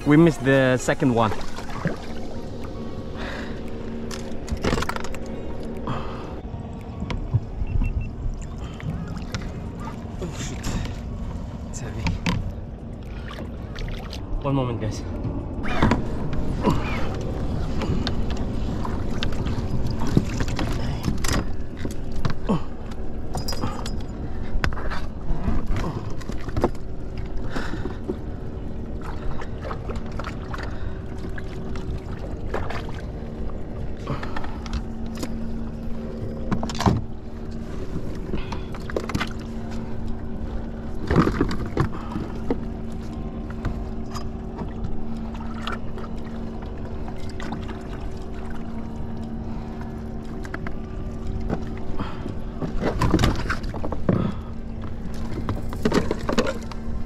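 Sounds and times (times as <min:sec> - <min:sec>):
steady low hum: 0:00.0 - 0:57.0
wind and water rumble: 0:00.0 - 0:57.0.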